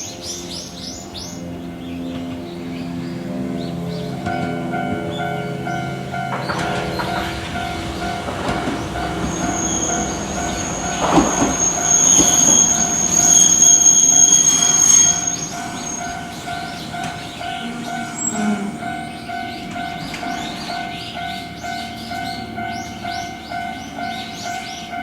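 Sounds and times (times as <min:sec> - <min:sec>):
tram wheel squeal: 0:00.0 - 0:25.0
wheels clattering over rail joints: 0:02.1 - 0:25.0.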